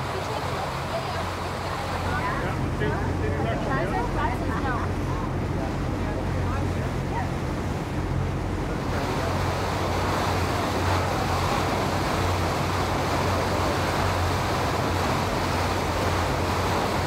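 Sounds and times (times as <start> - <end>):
boat engine droning: 0.0 - 17.0
water rushing: 0.0 - 17.0
wind: 0.0 - 17.0.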